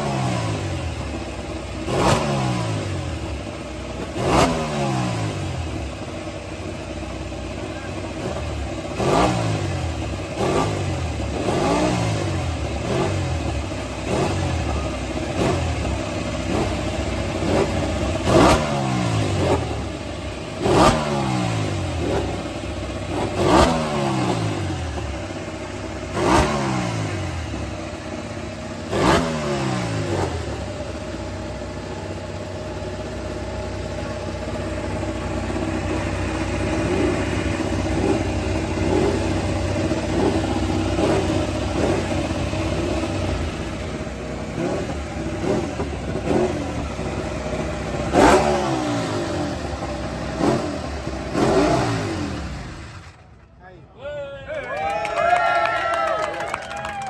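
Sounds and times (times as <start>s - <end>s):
motorcycle engine revving and idling: 0.0s - 53.6s.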